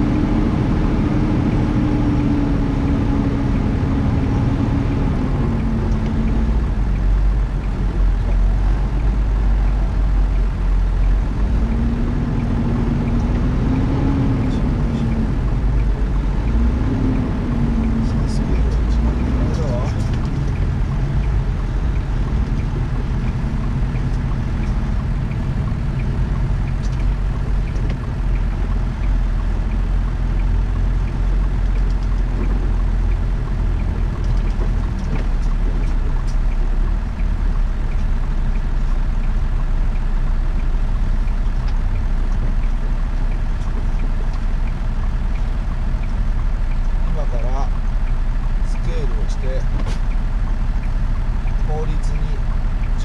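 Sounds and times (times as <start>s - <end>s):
truck engine droning: 0.0s - 53.0s.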